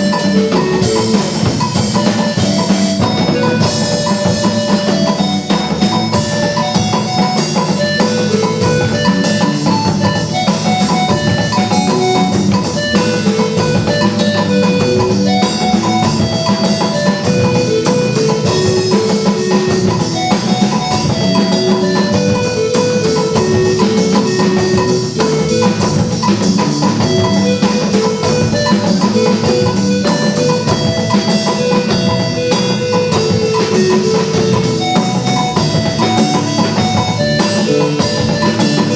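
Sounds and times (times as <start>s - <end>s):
instrumental music with drum beat: 0.0s - 38.9s.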